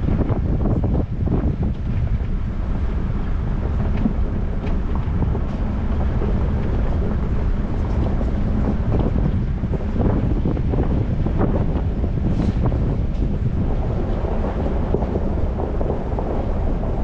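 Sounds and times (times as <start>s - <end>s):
vehicle driving rumble: 0.0s - 17.0s
wind buffeting microphone: 0.0s - 17.0s.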